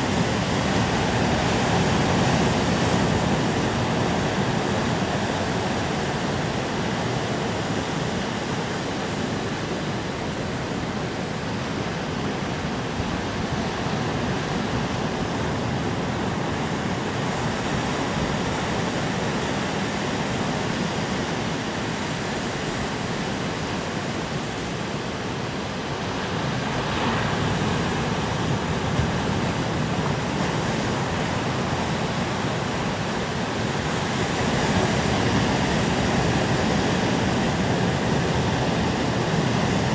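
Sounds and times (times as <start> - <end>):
waves breaking on rocky shore: 0.0 - 39.9.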